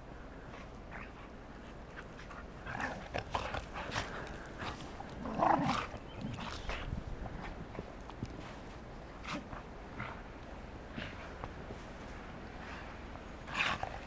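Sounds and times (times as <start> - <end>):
dogs play-wrestling in snow: 0.0 - 14.0.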